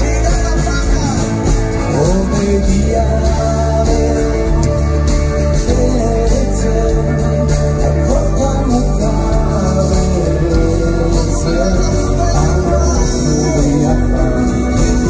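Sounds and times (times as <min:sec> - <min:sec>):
person singing: 0:00.0 - 0:15.0
rock band playing: 0:00.0 - 0:15.0.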